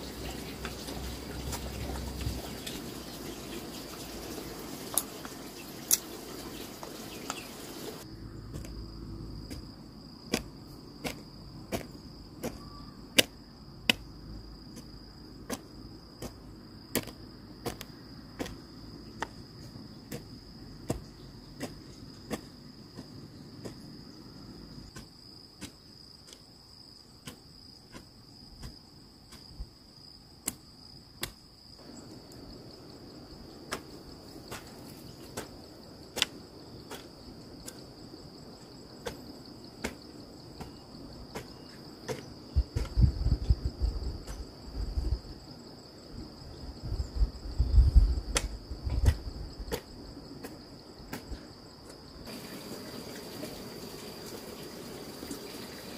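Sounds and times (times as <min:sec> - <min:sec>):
high-pitched insect trill: 0:00.0 - 0:55.9.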